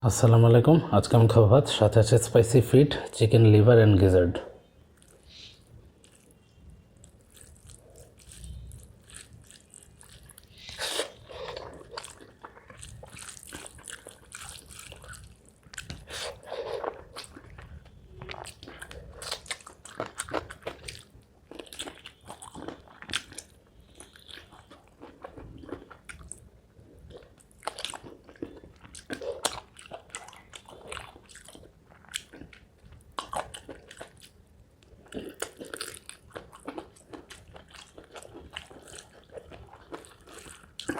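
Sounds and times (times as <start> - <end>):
person chewing and crunching food: 4.9 - 40.9.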